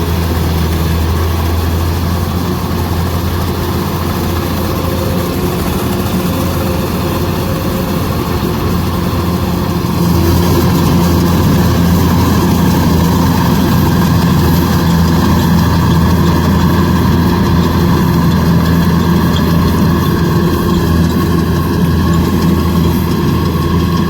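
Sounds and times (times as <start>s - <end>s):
combine harvester diesel engine running: 0.0s - 24.0s.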